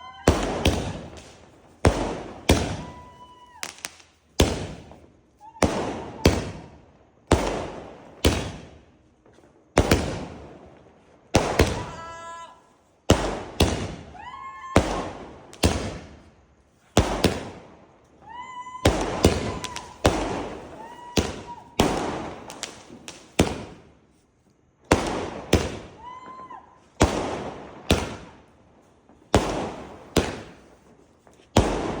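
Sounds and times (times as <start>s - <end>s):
fireworks bangs: 0.0s - 24.2s, 24.8s - 32.0s
fireworks whistling: 0.0s - 32.0s.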